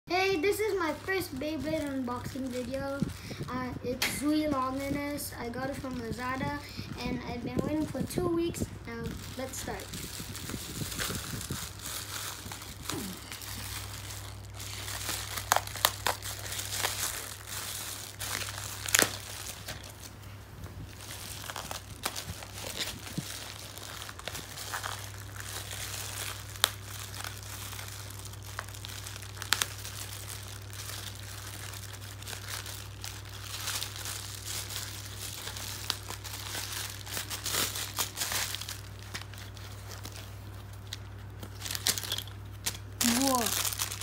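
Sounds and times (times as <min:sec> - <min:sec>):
plastic bag crinkling: 0:00.2 - 0:44.0
plastic tearing: 0:00.3 - 0:03.2, 0:08.9 - 0:20.1, 0:20.8 - 0:44.0.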